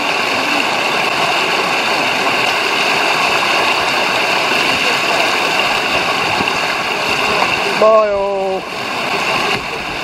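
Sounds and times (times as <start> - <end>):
whitewater rapids rushing: 0.0 - 10.0.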